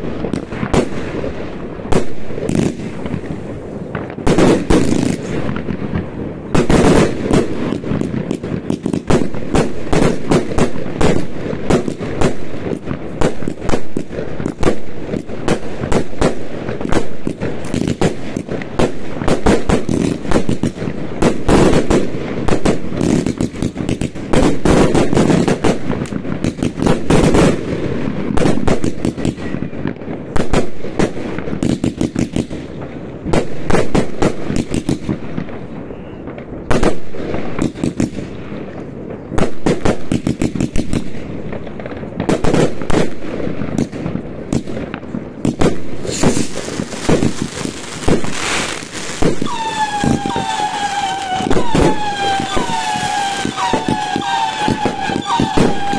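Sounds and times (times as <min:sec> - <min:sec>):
fireworks cracks and bangs: 0:00.0 - 0:55.9.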